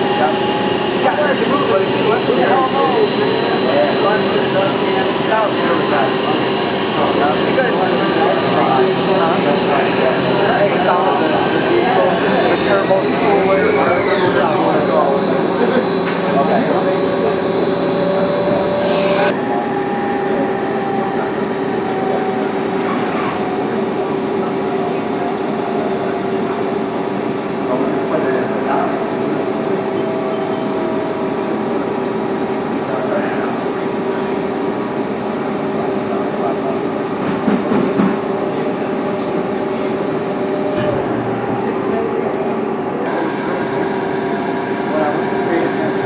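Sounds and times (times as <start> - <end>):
lathe machine whine: 0.0 - 46.0.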